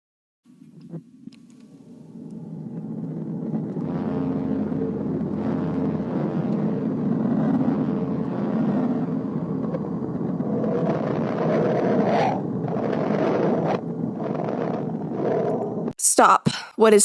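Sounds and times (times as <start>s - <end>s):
distorted rumbling drone: 0.5s - 16.0s
bright rising tone: 1.7s - 15.9s.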